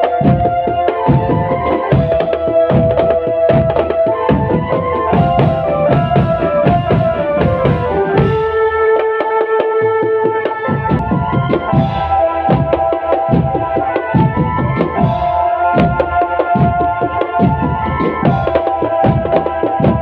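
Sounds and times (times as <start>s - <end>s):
marching drum band playing: 0.0s - 20.0s.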